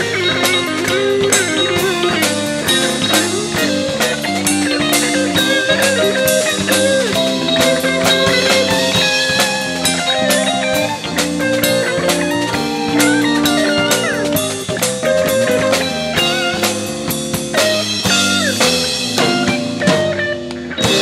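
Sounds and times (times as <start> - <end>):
drum kit beat: 0.0 - 21.0
jazz funk band playing: 0.0 - 21.0
sliding melody notes: 0.0 - 21.0.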